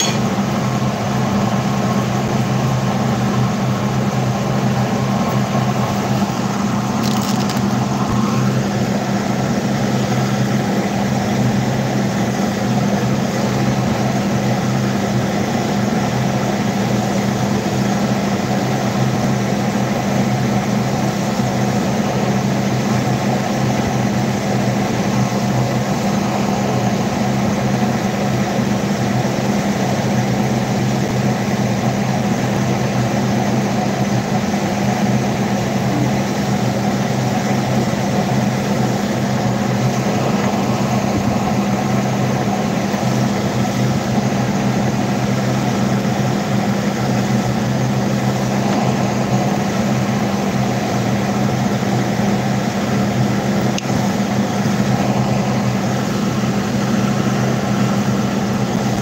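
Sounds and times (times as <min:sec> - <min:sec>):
kitchen appliance humming: 0:00.0 - 0:59.0.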